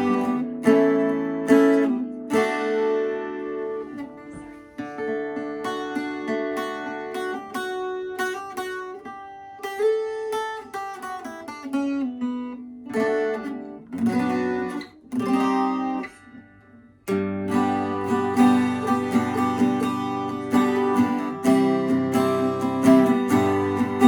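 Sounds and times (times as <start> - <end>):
acoustic guitar picking and strumming: 0.0 - 24.0.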